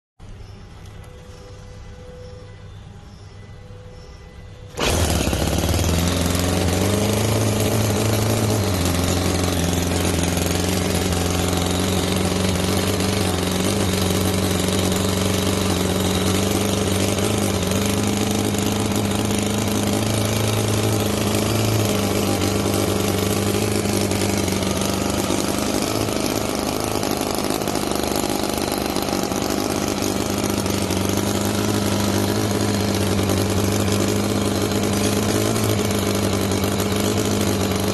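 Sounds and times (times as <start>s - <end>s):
model engine running: 4.4s - 37.9s.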